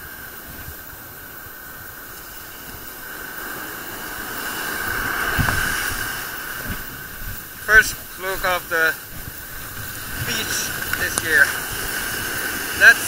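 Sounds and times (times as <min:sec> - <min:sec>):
surf washing on sand: 0:00.0 - 0:13.0.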